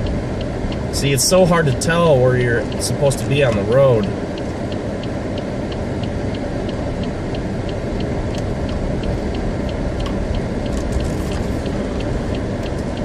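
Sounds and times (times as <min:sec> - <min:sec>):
car engine low rumble: 0:00.0 - 0:13.0
light ticking: 0:00.0 - 0:13.0.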